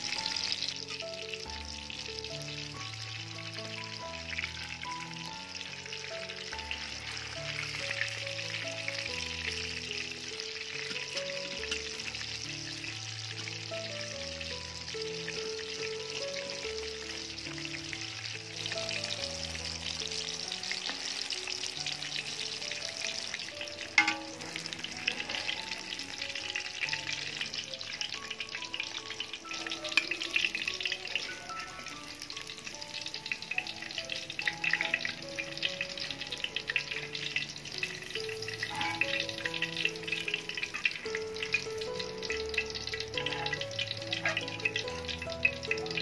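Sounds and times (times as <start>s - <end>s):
tofu sizzling in hot oil: 0.0s - 46.0s.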